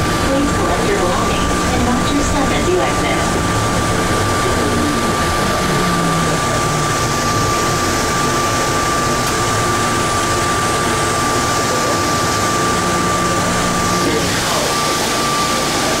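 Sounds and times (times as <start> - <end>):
high-pitched whine: 0.0 - 16.0
train rumbling and hissing: 0.0 - 16.0.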